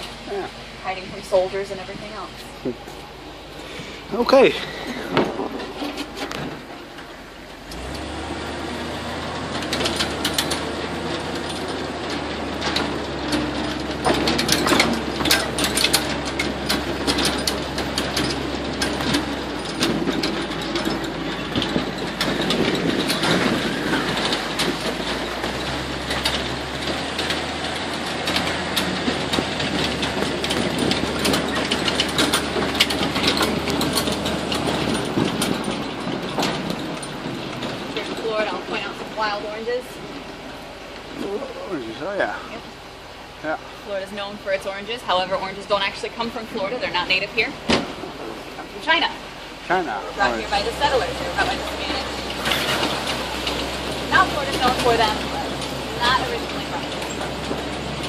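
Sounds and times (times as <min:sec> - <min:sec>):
vehicle engine running: 0:00.0 - 0:58.0
vehicle knocks and rattles: 0:00.0 - 0:58.0.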